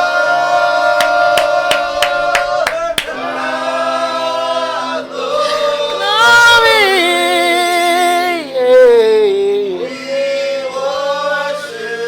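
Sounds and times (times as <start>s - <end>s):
congregation singing: 0.0s - 12.0s.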